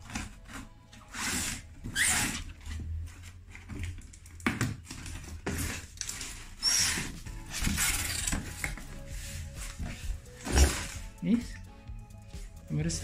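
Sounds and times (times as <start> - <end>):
cardboard scraping and rustling: 0.0 - 11.1.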